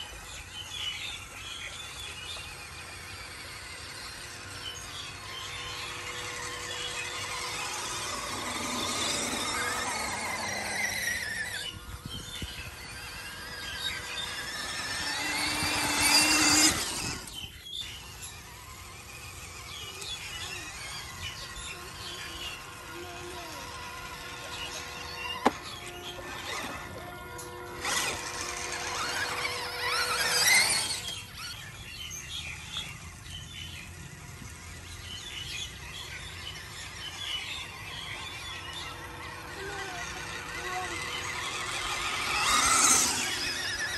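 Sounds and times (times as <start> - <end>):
birds chirping: 0.0 - 43.9
electric motor whining: 0.0 - 43.9.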